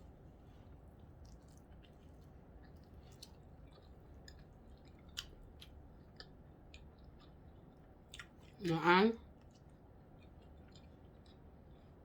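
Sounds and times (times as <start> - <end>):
person chewing a sandwich: 0.0 - 12.0.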